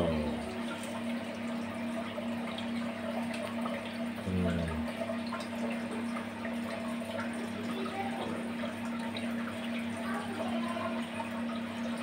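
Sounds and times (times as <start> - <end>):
aquarium water trickling: 0.0 - 12.0.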